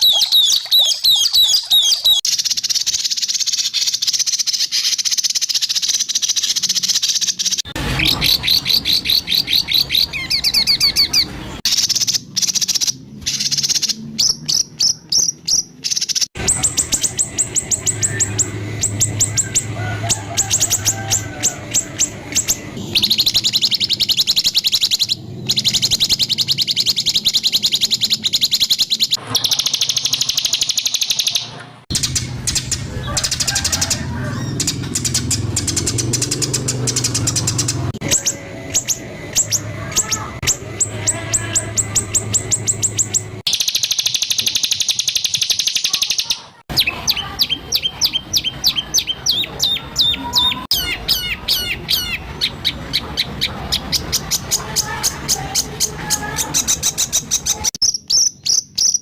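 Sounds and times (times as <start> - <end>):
bird song harsh high trills: 0.0 - 59.0.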